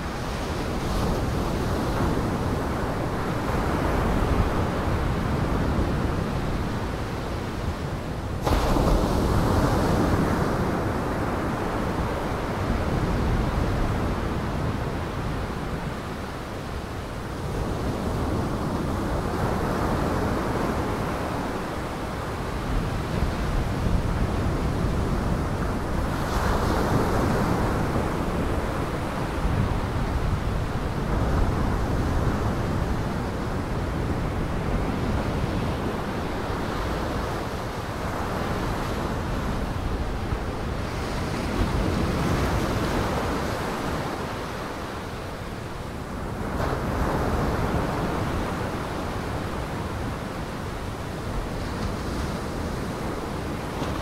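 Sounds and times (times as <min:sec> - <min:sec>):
waves breaking and washing in: 0:00.0 - 0:54.0
wind: 0:00.0 - 0:54.0.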